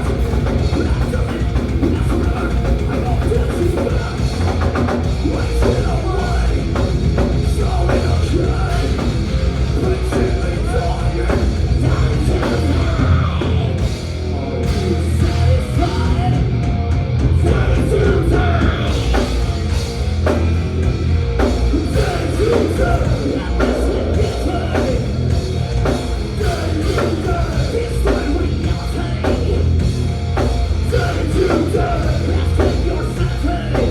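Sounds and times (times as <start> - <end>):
bass guitar: 0.0 - 33.9
distorted electric guitars: 0.0 - 33.9.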